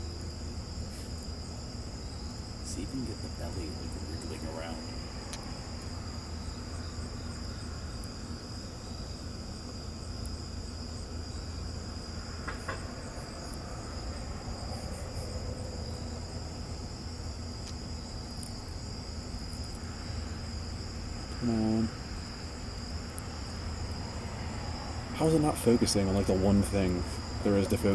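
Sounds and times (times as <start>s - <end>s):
insect trilling: 0.0s - 27.9s.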